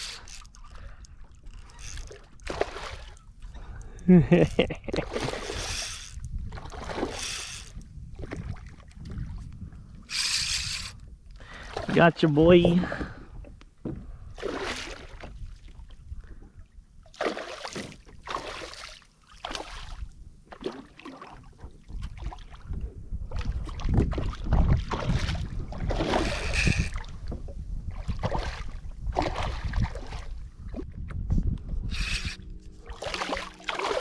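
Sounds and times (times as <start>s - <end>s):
water splashing against kayak: 0.0s - 3.7s, 4.3s - 31.0s, 31.9s - 34.0s
wind rumble on microphone: 0.0s - 17.2s, 21.4s - 34.0s.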